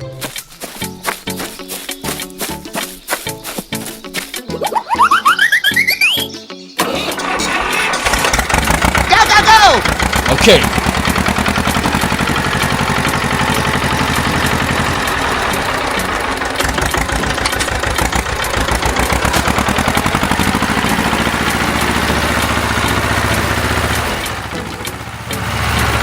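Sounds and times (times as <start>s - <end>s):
vehicle engine chugging: 0.0s - 26.0s.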